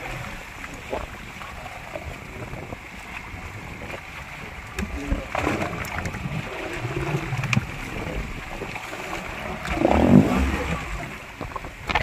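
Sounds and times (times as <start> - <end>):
water splashing against boat hull: 0.0 - 12.0.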